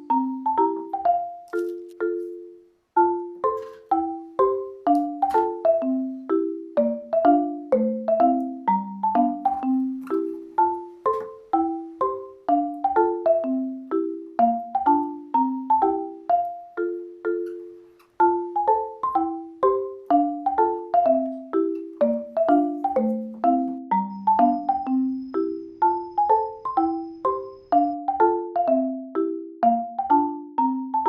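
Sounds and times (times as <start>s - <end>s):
light mallet melody: 0.0s - 31.0s.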